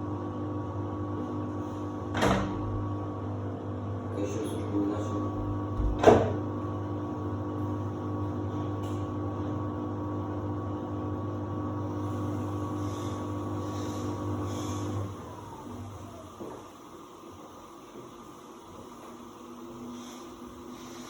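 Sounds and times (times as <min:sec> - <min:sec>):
washer-dryer humming and whining: 0:00.0 - 0:21.0.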